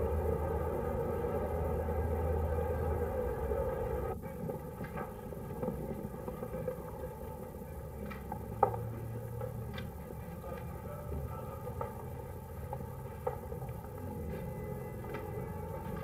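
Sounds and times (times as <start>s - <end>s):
film soundtrack hum and hiss: 0.0s - 16.0s.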